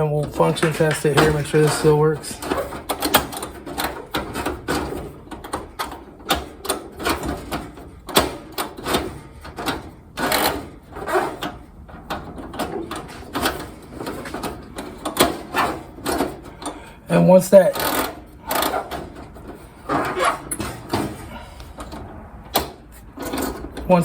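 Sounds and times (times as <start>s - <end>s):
metal clicks and clatter: 0.2s - 16.8s, 17.8s - 24.0s.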